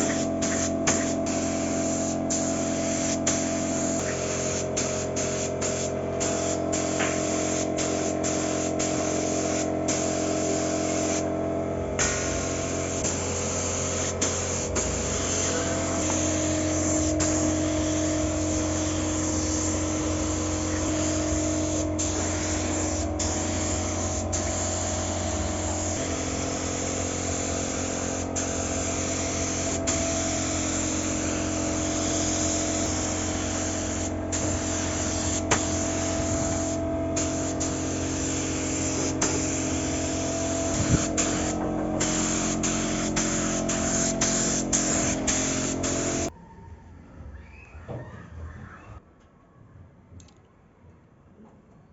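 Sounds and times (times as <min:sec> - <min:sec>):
paint spray hissing: 0:00.0 - 0:11.3, 0:12.0 - 0:46.3.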